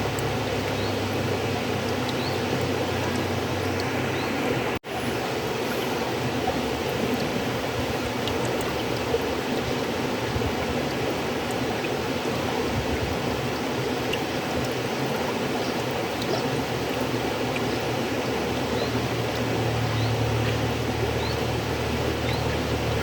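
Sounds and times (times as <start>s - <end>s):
faint water splashes: 0.0s - 23.0s
river water rushing: 0.0s - 23.0s.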